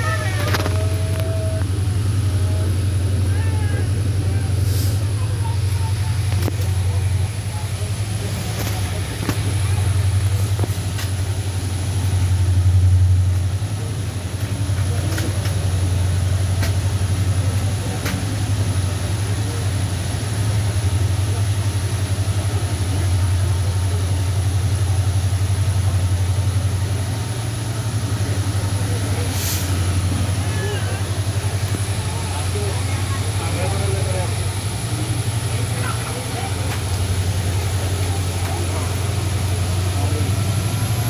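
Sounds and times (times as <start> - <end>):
train rumbling drone: 0.0 - 41.0.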